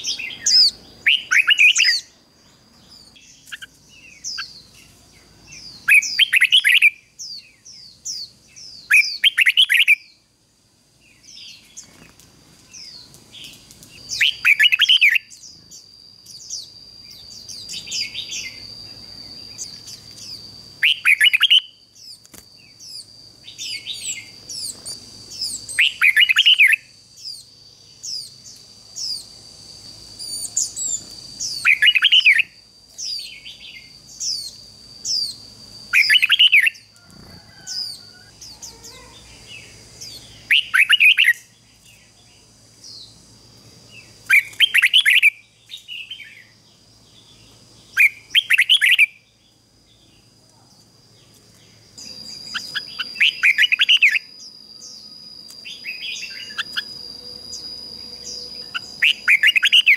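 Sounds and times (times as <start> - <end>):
bird singing warbled phrases: 0.0 - 10.3, 11.0 - 12.1, 12.7 - 29.4, 30.1 - 43.2, 43.9 - 50.3, 51.6 - 59.9
quiet high chirps: 0.0 - 59.9
thin steady high tone: 0.0 - 59.9.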